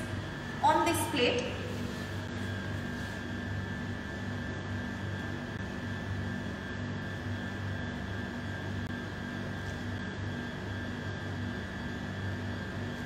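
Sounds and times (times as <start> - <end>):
steady mechanical hum: 0.0 - 13.0
thin high whine: 0.0 - 13.0.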